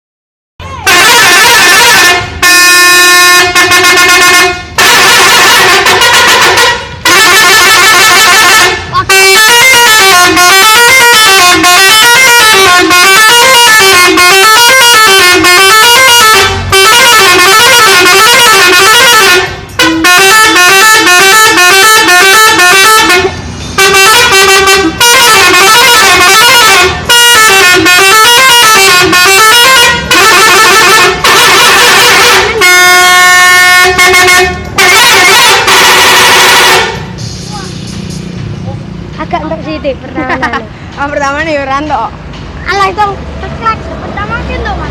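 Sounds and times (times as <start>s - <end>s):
musical bus horn melody: 0.8s - 37.4s.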